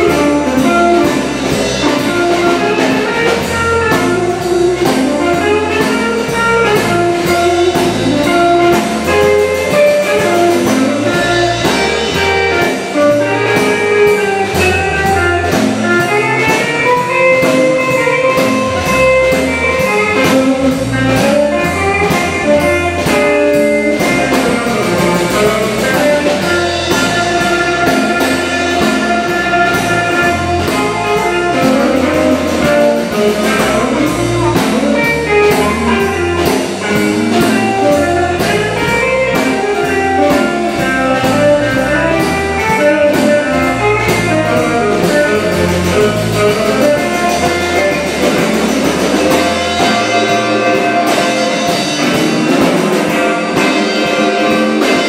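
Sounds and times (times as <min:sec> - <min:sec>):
amplified harmonica long notes: 0:00.0 - 0:55.0
drum kit: 0:00.0 - 0:55.0
electric bass: 0:00.0 - 0:55.0
electric guitar: 0:00.0 - 0:55.0.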